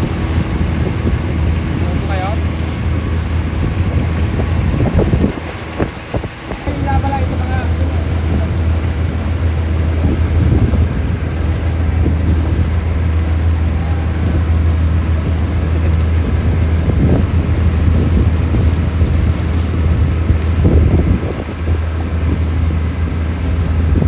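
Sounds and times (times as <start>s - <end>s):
road or water noise: 0.0s - 24.0s
vehicle engine hum: 0.0s - 24.0s.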